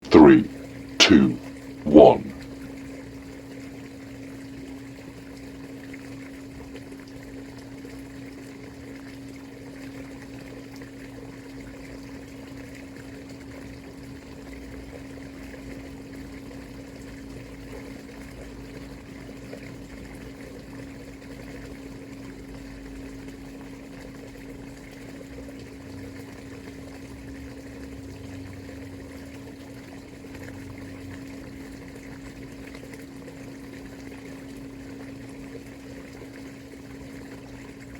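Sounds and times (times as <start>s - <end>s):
water flowing and trickling: 5.2s - 37.9s.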